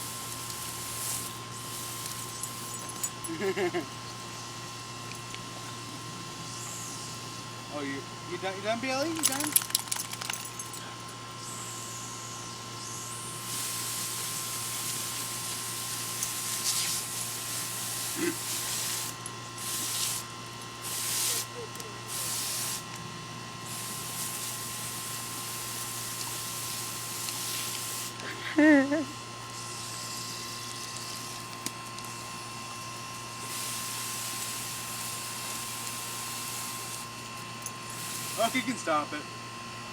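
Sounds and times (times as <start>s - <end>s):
garden hose spraying water: 0.0s - 10.8s, 11.4s - 23.0s, 23.6s - 39.2s.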